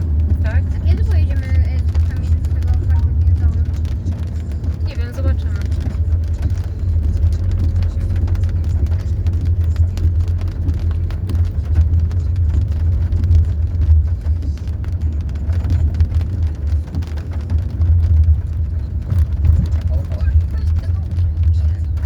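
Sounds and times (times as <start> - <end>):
engine and road rumble: 0.0 - 22.0
small clicks and rattles: 0.0 - 22.0.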